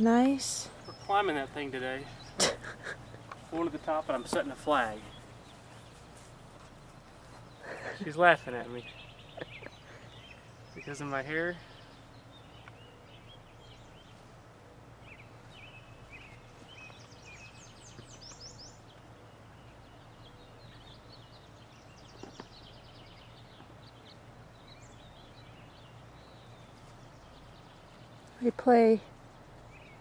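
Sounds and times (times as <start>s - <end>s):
small birds chirping and trilling: 0.0s - 30.0s
steady low hum: 0.0s - 30.0s.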